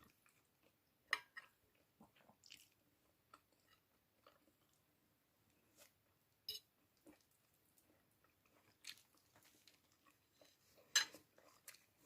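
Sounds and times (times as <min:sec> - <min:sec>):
person chewing: 0:00.0 - 0:04.9, 0:06.8 - 0:12.0.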